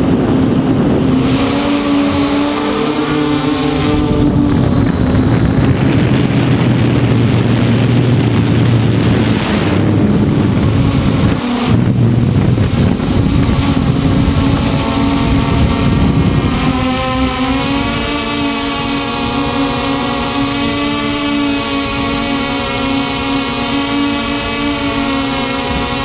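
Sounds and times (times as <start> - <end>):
drone propellers buzzing: 0.0 - 26.0
wind noise on microphone: 0.0 - 26.0.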